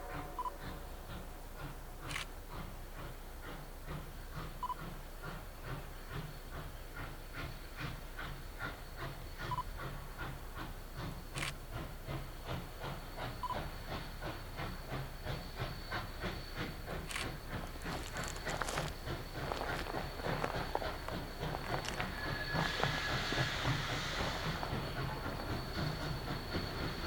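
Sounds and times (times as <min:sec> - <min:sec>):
steam hissing: 0:00.0 - 0:27.0
steam locomotive chuffing: 0:00.0 - 0:27.0.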